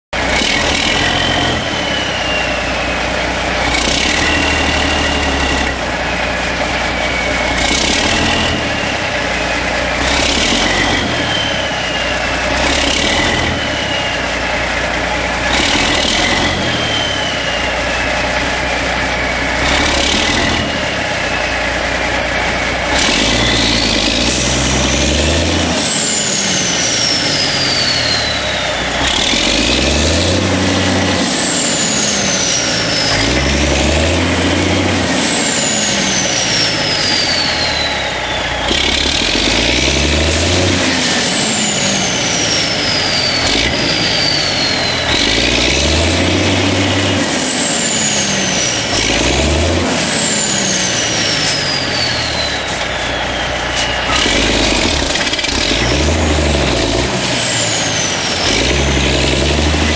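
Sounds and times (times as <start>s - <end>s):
diesel truck engine revving: 0.0s - 59.9s
high whine: 0.2s - 59.9s.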